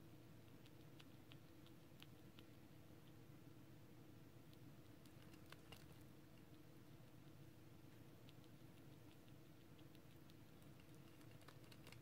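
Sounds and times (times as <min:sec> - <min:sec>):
low room hum: 0:00.0 - 0:12.0
hamster crunching bread: 0:00.2 - 0:12.0.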